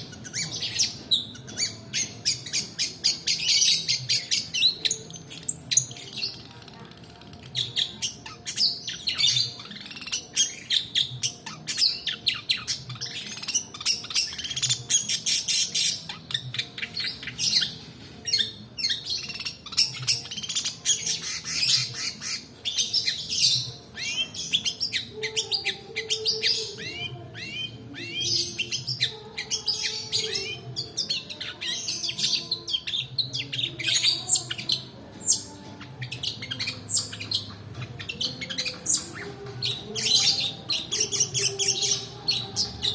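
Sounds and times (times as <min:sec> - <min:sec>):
bird singing fast chirps and trills: 0:00.0 - 0:42.9.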